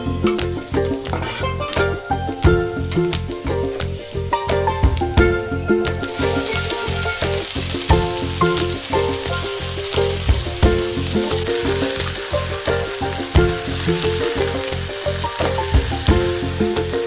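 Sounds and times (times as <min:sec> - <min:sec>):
greens sizzling in a pan: 0:00.0 - 0:17.0
rhythmic background music: 0:00.0 - 0:17.0.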